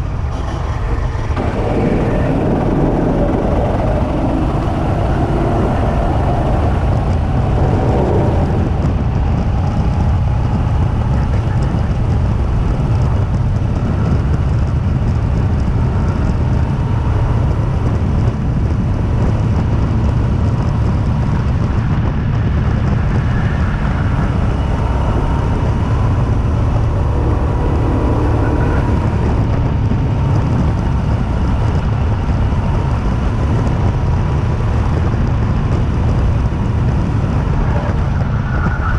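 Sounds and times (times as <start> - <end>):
go-kart motor whining: 0.0 - 38.9
wind buffeting microphone: 0.0 - 38.9.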